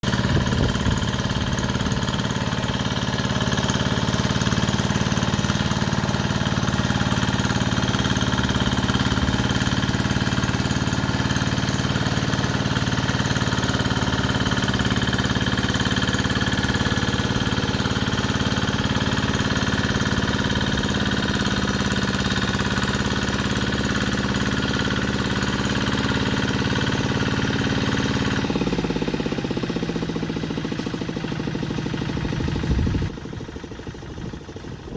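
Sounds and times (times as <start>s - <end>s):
hand tractor engine running: 0.0s - 34.9s.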